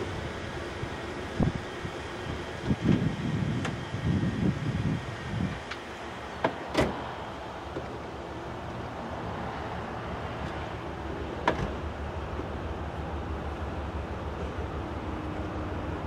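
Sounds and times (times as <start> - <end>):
diesel locomotives rumbling: 0.0 - 16.0.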